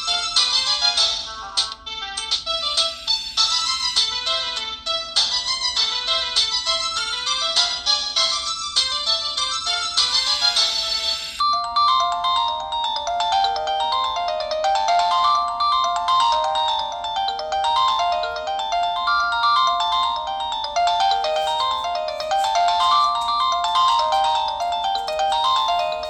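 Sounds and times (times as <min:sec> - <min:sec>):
phone ringtone melody: 0:00.0 - 0:26.0.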